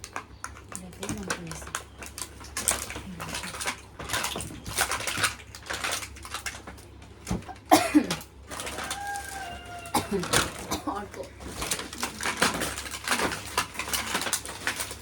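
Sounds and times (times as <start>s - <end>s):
gift packaging rustling: 0.0s - 15.0s.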